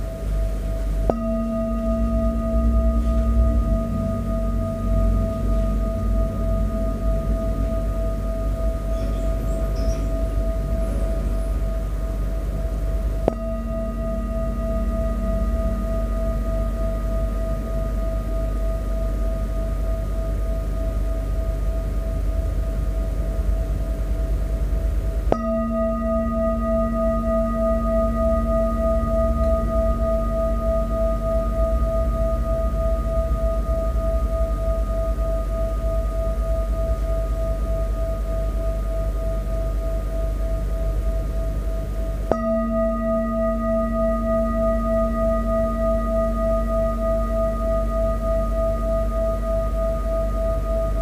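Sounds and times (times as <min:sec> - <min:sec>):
deeper bowl tone: 0:00.0 - 0:51.0
metal singing bowl ringing: 0:00.0 - 0:51.0.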